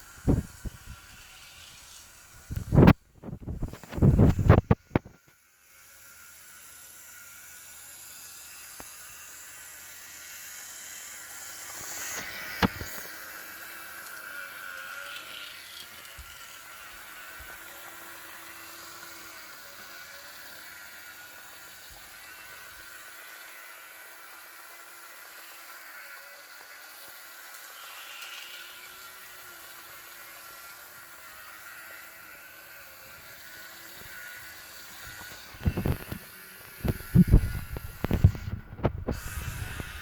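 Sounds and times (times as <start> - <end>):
small electric motor whirring: 0.0 - 40.0.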